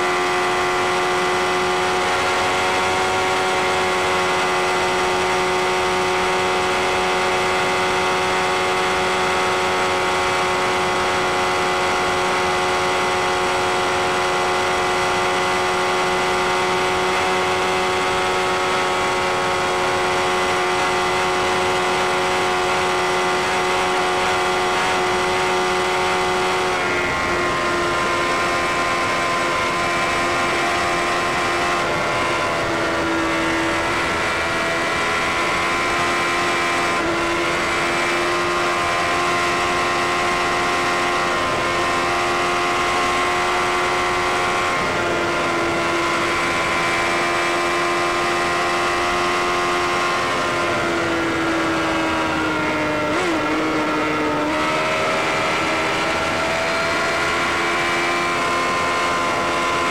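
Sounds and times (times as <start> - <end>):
motorcycle engine at high revs: 0.0 - 59.9
wind and road noise: 0.0 - 59.9.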